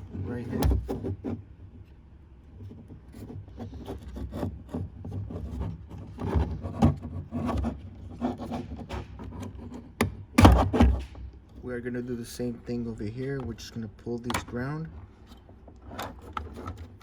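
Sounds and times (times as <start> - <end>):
wires and plastic scraping: 0.0 - 12.0, 12.7 - 17.0.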